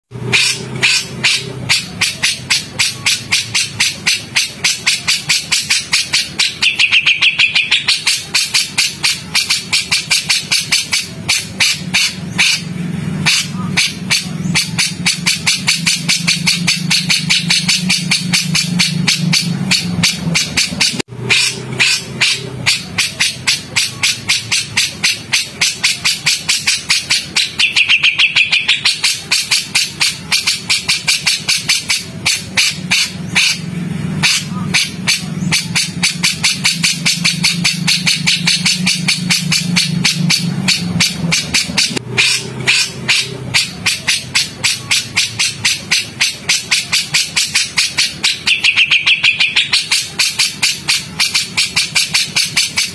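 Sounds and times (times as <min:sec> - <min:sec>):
harsh rapid bird calls: 0:00.1 - 0:52.9.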